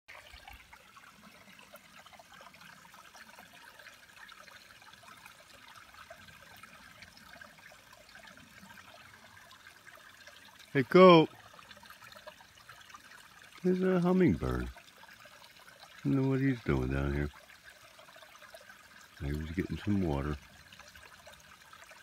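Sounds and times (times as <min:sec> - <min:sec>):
creek trickling over rocks: 0:00.1 - 0:22.0.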